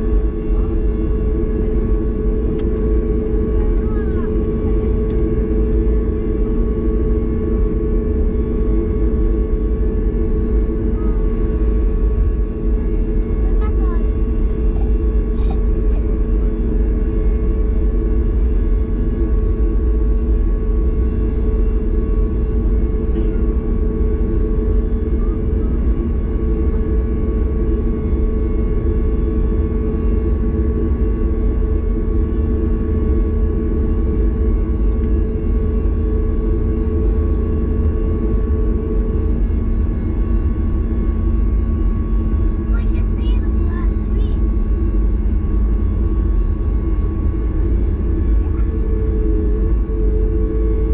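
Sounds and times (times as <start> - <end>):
constant hum tones: 0.0 - 50.9
deep rumble of jet engines: 0.0 - 50.9.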